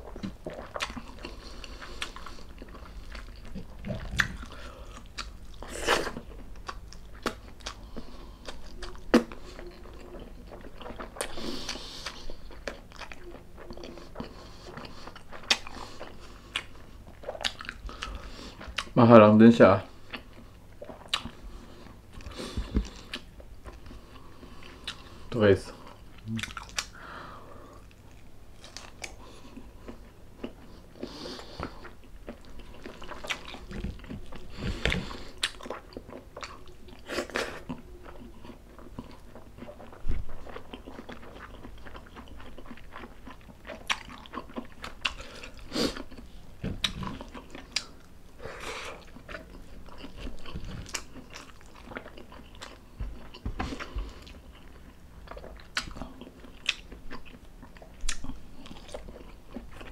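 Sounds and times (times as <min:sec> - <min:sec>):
person chewing wetly: 0:00.0 - 0:19.0, 0:19.8 - 0:25.2, 0:25.8 - 0:59.9.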